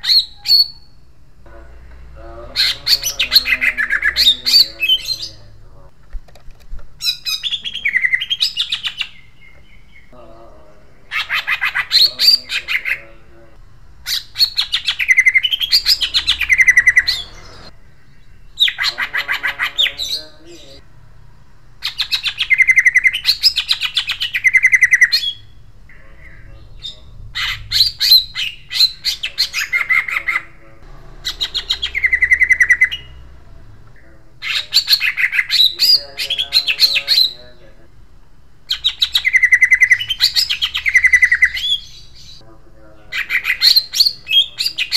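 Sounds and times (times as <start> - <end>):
bird singing rolling trills: 0.0 - 5.9, 7.0 - 44.9.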